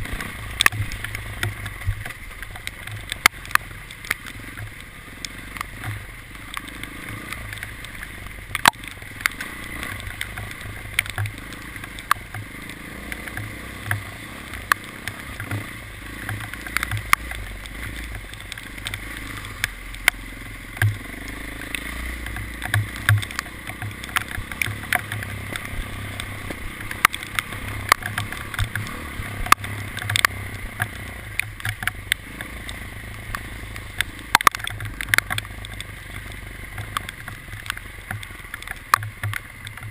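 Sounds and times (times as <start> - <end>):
sharp ticks and knocks: 0.0 - 39.9
vehicle engine rumbling: 0.0 - 39.9.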